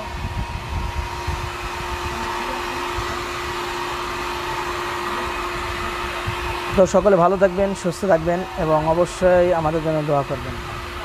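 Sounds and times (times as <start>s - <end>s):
constant hum: 0.0s - 11.0s
electric blower motor whir: 0.0s - 11.0s.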